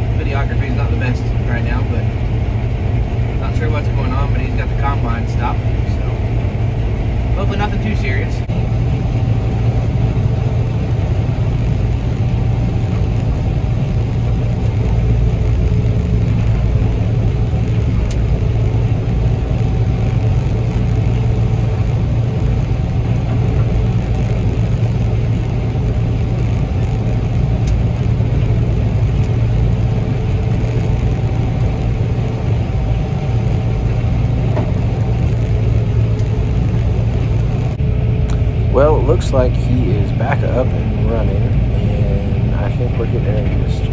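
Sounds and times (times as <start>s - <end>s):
combine harvester engine drone: 0.0s - 43.9s
faint steady whine: 0.0s - 43.9s.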